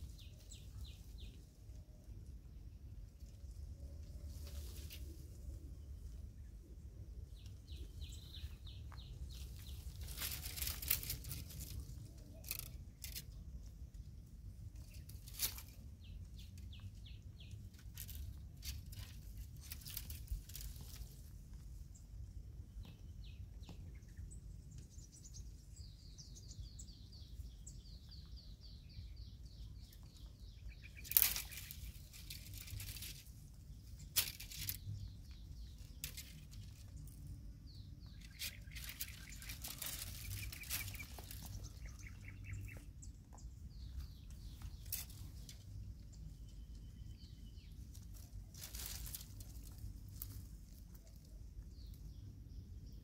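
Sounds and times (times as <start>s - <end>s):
leafy branches rustling: 0.0s - 22.1s, 29.3s - 52.2s
small birds chirping: 0.0s - 53.0s.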